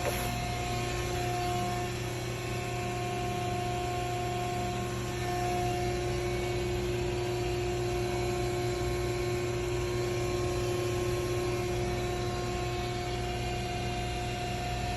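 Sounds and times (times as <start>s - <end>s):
machine hum with steady tones: 0.0s - 14.9s.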